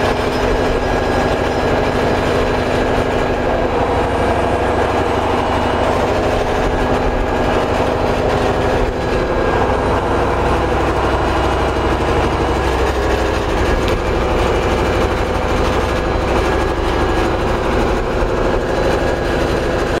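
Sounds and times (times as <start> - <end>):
generator engine drone: 0.0 - 20.0.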